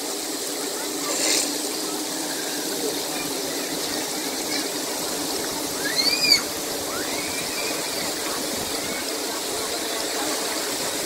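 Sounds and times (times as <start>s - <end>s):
water overflowing and spilling: 0.0s - 11.0s.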